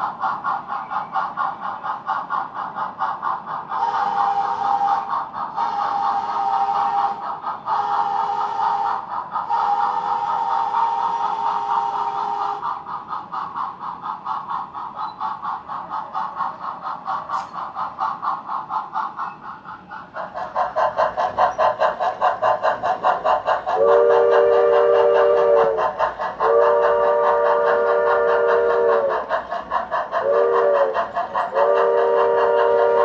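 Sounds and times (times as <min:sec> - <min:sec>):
steam locomotive exhaust chuffs: 0:00.0 - 0:33.0.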